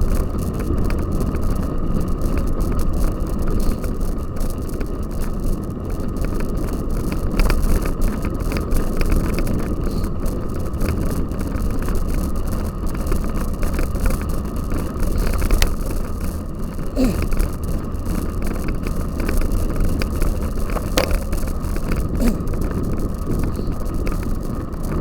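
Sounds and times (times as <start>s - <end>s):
bike clicks and rattles: 0.0s - 25.0s
wind rumble on microphone: 0.0s - 25.0s.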